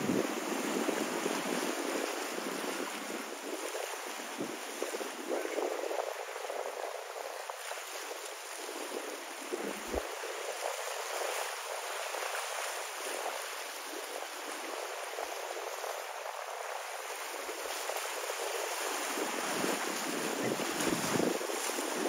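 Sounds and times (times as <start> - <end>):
ocean water washing: 0.0 - 22.0
wind buffeting microphone: 0.0 - 22.0.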